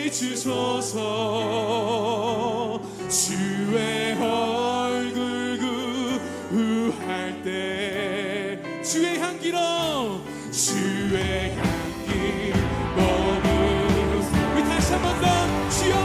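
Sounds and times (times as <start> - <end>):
worship band playing: 0.0 - 16.0.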